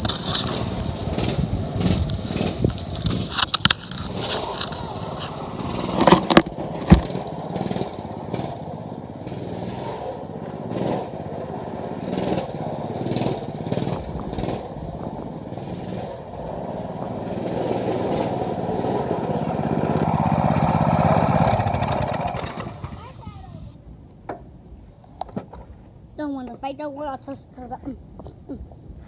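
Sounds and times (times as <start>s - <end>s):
dirt bike engine running: 0.0s - 23.6s.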